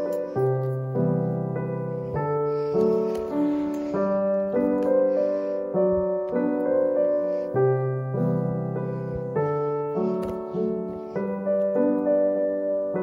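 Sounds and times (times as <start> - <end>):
gentle keyboard music: 0.0 - 13.0.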